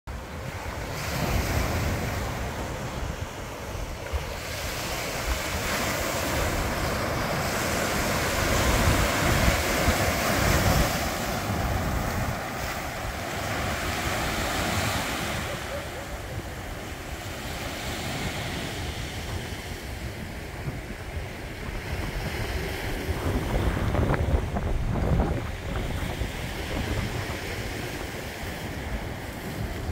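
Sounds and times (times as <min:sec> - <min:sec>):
surf breaking on a beach: 0:00.1 - 0:29.9
wind buffeting the microphone: 0:00.1 - 0:29.9.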